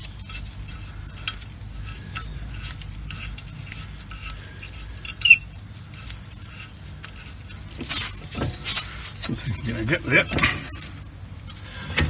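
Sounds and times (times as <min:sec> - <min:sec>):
steel rod scraping and ticking: 0:00.0 - 0:12.0.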